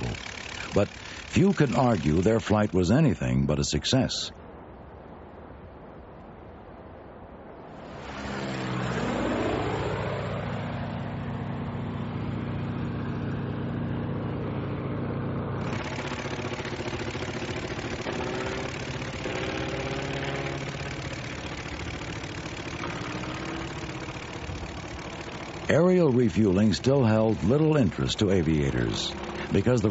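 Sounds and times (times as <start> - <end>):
propeller aircraft engine drone: 0.0 - 29.9.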